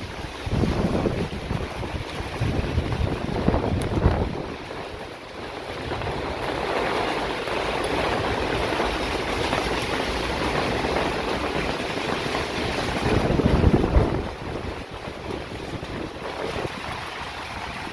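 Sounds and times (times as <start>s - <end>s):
hail and rain falling: 0.0s - 17.9s.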